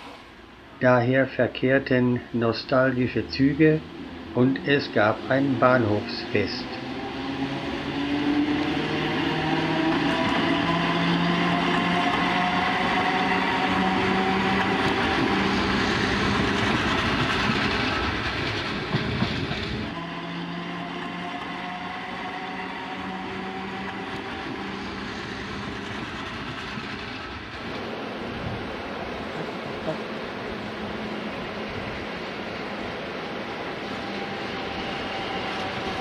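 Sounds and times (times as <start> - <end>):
train wheel and running noise: 0.0 - 36.0.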